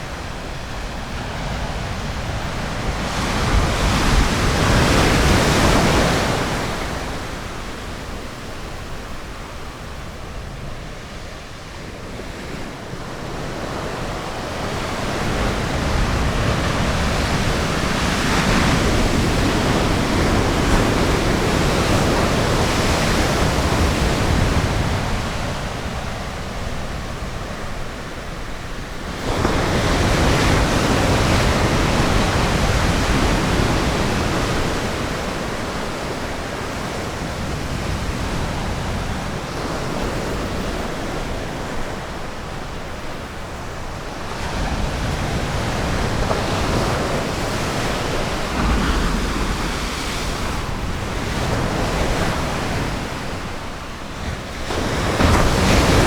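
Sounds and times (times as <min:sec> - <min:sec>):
ocean surf washing onto beach: 0:00.0 - 0:56.0.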